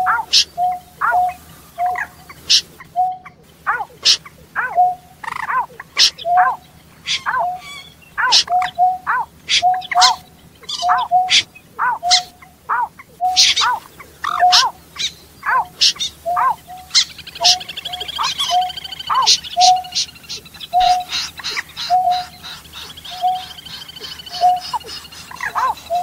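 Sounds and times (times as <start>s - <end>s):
bird call repeated rapidly: 0.0s - 26.0s
faint buzzing trill: 0.0s - 26.0s.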